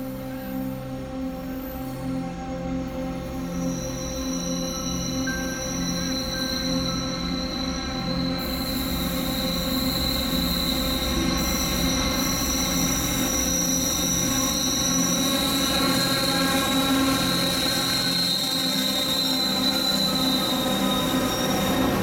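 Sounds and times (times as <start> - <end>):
low rumble of moving train: 0.0 - 22.0
train wheels squealing on rails: 0.0 - 22.0.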